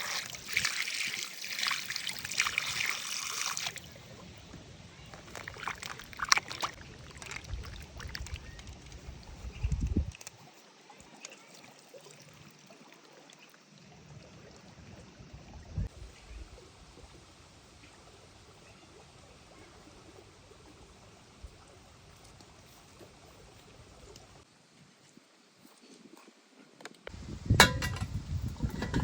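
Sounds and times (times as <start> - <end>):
trickle of flowing water: 0.0 - 29.0.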